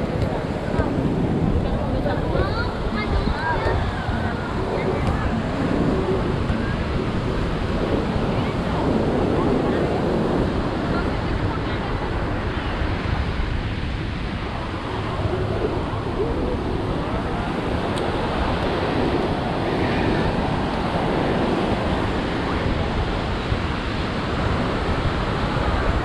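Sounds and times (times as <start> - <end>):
waves washing onto beach: 0.0 - 26.0
wind on microphone: 0.0 - 26.0.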